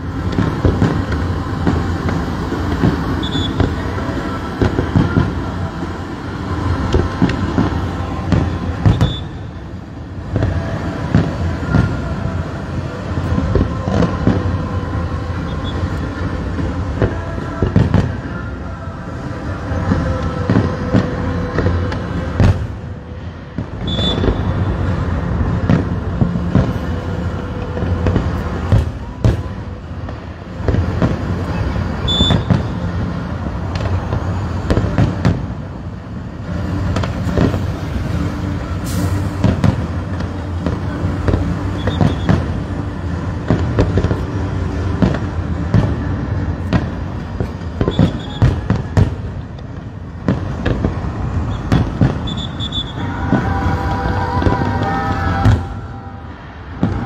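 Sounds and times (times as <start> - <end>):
continuous low rumble: 0.0 - 57.0
fireworks bangs: 0.0 - 57.0.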